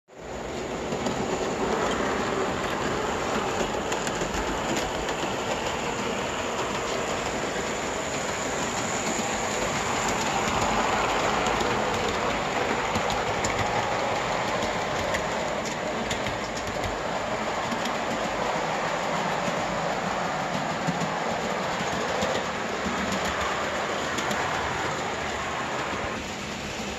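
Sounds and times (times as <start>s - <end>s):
model train wheels rumbling on rails: 0.1s - 26.9s.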